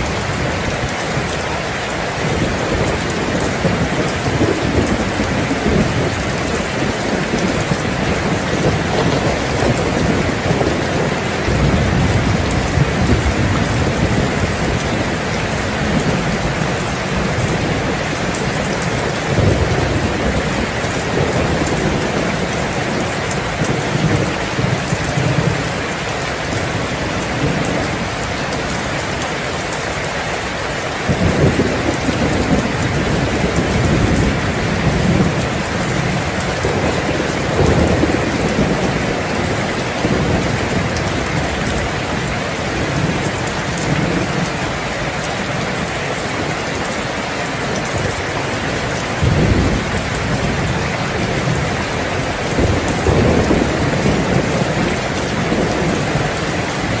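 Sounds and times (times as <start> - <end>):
heavy rain: 0.0 - 57.0
thunder rumbling: 0.0 - 57.0.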